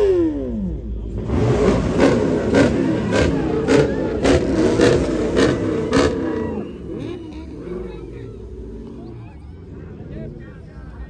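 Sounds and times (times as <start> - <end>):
car engine revving: 0.0 - 11.0
engine running rough with cracks: 0.0 - 11.0.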